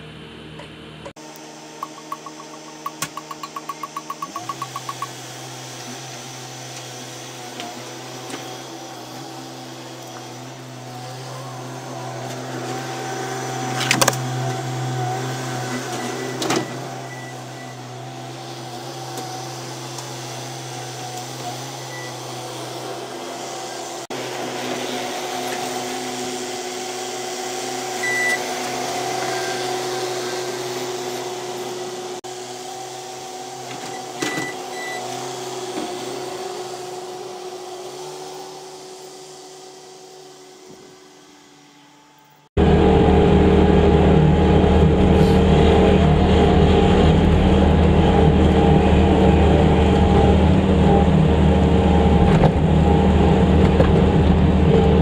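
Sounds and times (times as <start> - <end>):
diesel loader engine running: 0.0 - 39.6, 41.8 - 55.0.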